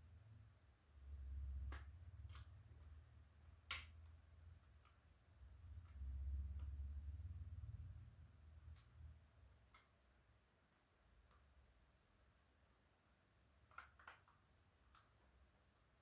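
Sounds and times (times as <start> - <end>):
small parts clicking and tapping: 1.4 - 7.1, 8.0 - 11.8, 12.5 - 15.8.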